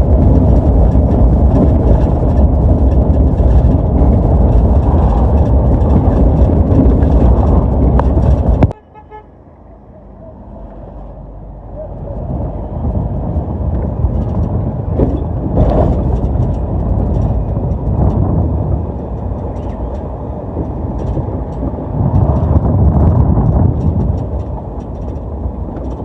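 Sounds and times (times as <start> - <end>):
small rattles and clicks: 0.0 - 8.8, 13.0 - 26.0
vehicle road and engine rumble: 0.0 - 26.0.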